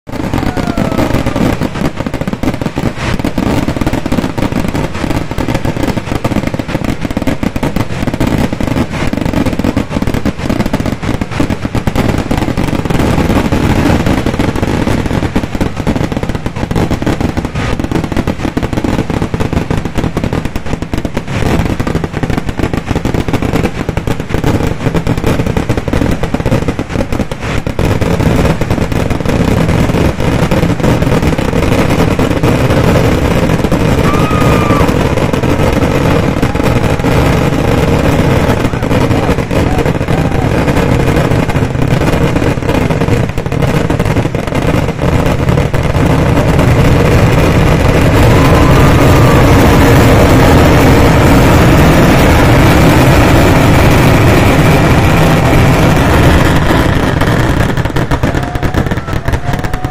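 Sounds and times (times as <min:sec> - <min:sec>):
fireworks exploding rapidly: 0:00.0 - 0:59.9.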